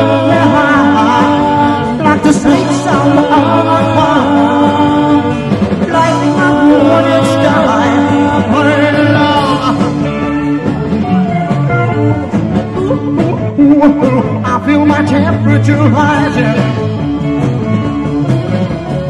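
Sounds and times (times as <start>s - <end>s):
person singing: 0.0s - 19.0s
rock and roll band playing: 0.0s - 19.0s.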